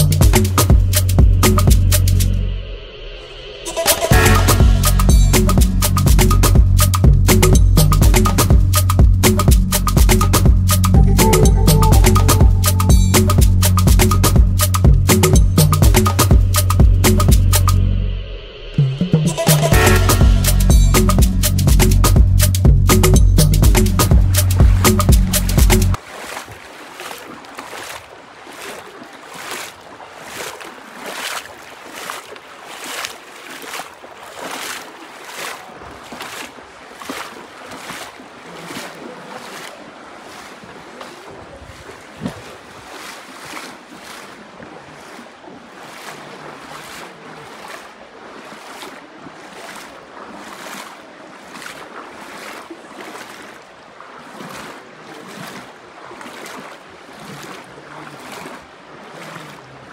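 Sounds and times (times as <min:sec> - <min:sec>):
footsteps splashing in water: 0:00.0 - 0:02.3, 0:03.9 - 0:17.6, 0:19.6 - 0:59.9
flowing river water: 0:00.0 - 0:59.9.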